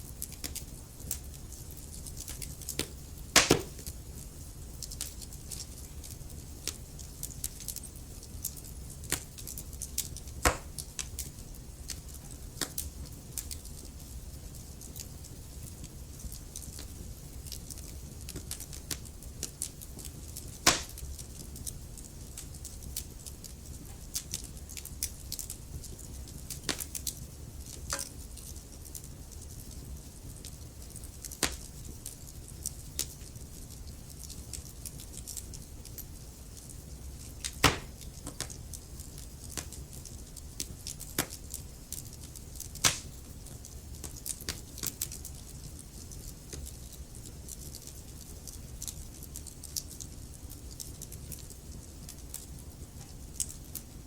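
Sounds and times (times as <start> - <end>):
low rumble of flame: 0.0 - 54.0
logs crackling and popping: 0.1 - 54.0.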